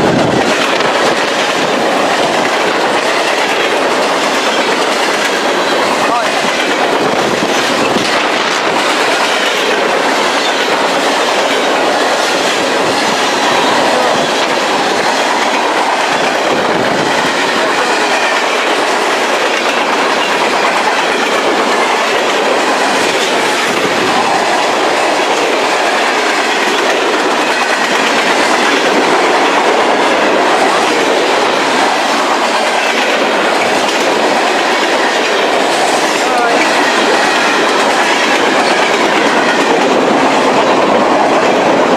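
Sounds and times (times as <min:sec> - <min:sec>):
freight train rushing past: 0:00.0 - 0:41.9
wheels clacking over rail joints: 0:00.0 - 0:41.9.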